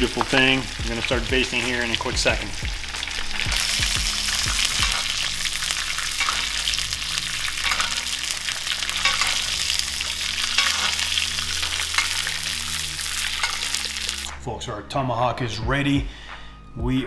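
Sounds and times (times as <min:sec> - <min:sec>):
butter sizzling in skillet: 0:00.0 - 0:14.3.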